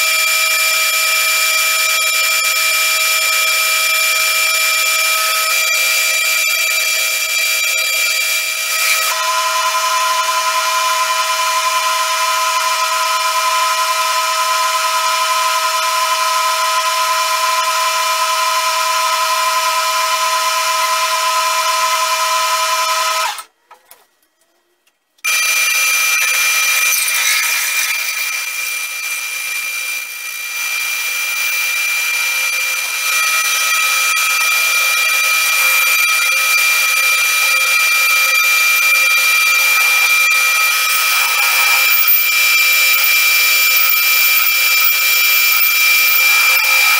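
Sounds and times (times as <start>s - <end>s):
drill drilling into metal: 0.0s - 23.5s, 25.3s - 46.9s
metal lathe whine: 0.0s - 23.5s, 25.3s - 46.9s.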